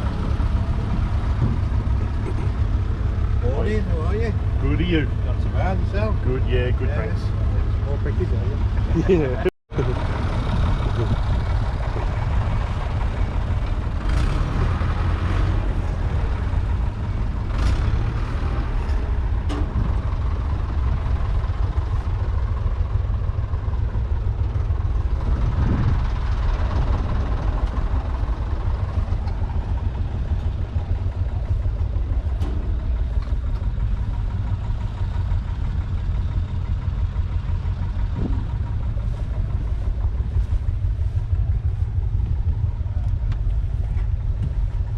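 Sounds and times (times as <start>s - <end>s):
tractor diesel engine rumbling: 0.0s - 44.9s.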